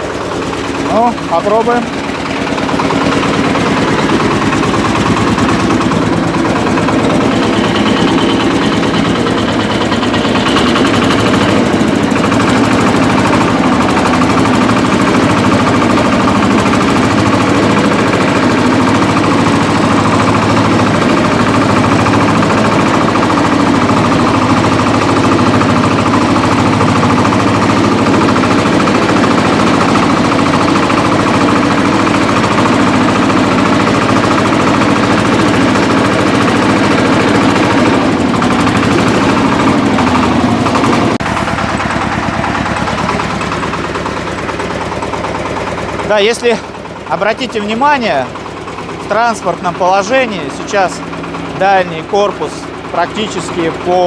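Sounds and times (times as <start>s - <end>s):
diesel tractor engine clattering: 0.0s - 54.0s.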